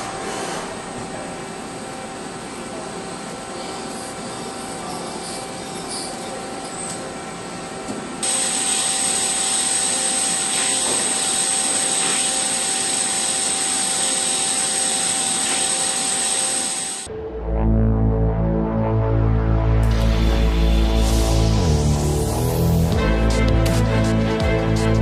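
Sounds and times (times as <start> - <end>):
machine running with high whine: 0.0 - 18.1, 19.8 - 24.6.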